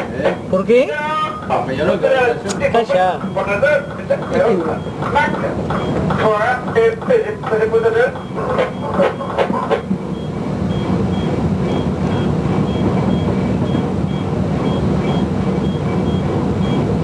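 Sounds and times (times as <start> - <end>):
mechanical rumble: 0.0 - 17.0.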